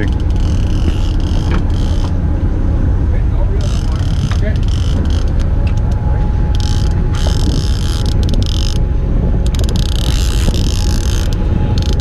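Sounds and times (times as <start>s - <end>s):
fishing reel ratchet clicking: 0.0s - 2.2s, 3.6s - 8.8s, 9.4s - 12.0s
low rumble of boat and wind: 0.0s - 12.0s.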